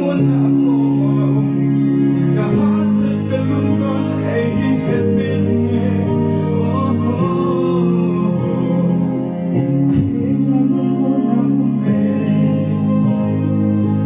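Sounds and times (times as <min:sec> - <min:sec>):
amplified instrumental music: 0:00.0 - 0:14.0
man singing into microphone: 0:00.0 - 0:14.0.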